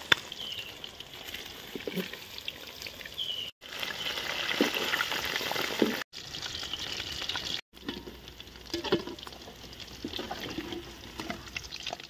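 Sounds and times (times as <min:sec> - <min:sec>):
chicken deep-frying in hot oil: 0:00.0 - 0:12.0.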